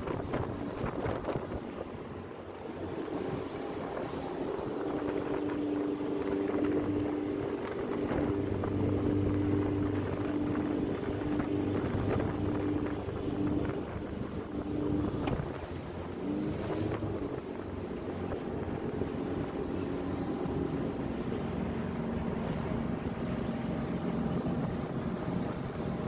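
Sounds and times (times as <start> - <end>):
wind on microphone: 0.0 - 2.1, 2.8 - 26.0
motorboat engine hum: 0.0 - 26.0
water rushing along hull: 0.0 - 26.0.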